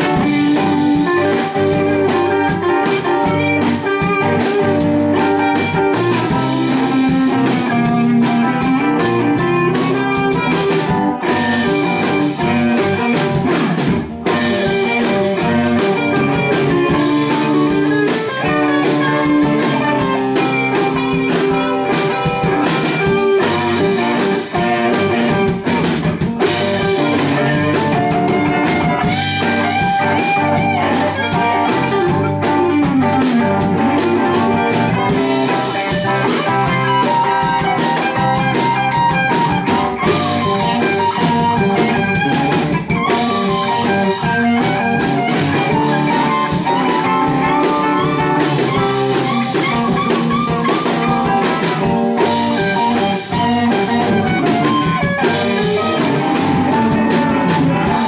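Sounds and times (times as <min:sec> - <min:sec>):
guitar playing: 0:00.0 - 0:58.0
live blues band: 0:00.0 - 0:58.0.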